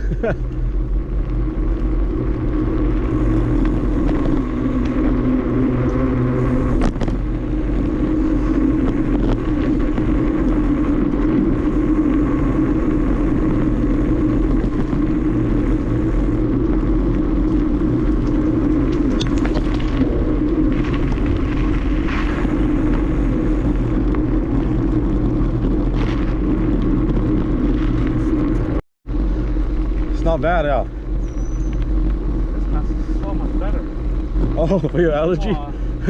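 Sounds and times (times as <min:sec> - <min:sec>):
bicycle tyre rumble on trail: 0:00.0 - 0:36.0
wind on microphone: 0:00.0 - 0:36.0.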